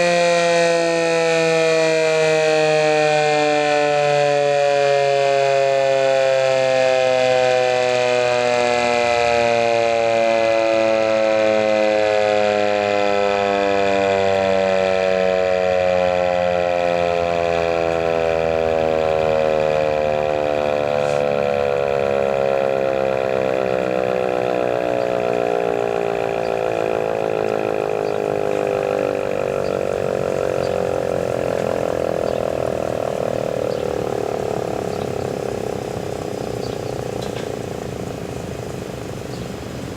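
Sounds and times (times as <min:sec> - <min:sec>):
warning siren winding down: 0:00.0 - 0:39.9.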